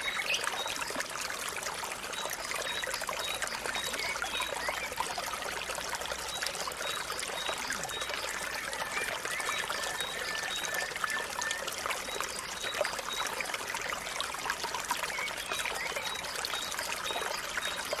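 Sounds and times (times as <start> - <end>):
water pouring from a spout: 0.0 - 18.0.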